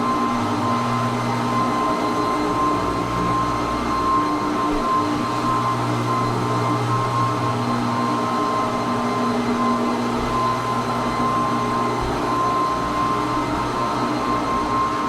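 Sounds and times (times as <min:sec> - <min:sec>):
floor buffer motor hum: 0:00.0 - 0:15.0.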